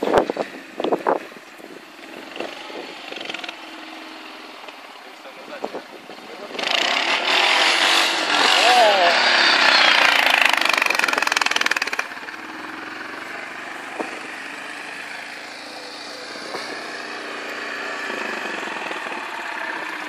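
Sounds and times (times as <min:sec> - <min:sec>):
quad bike engine revving: 0:00.0 - 0:20.0.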